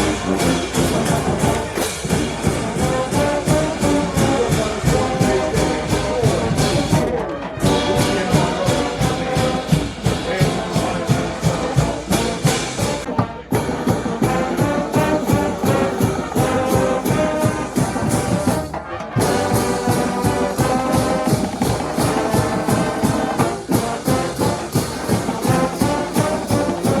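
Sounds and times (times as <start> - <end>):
brass band playing: 0.0 - 27.0
steady drum beat: 0.0 - 27.0.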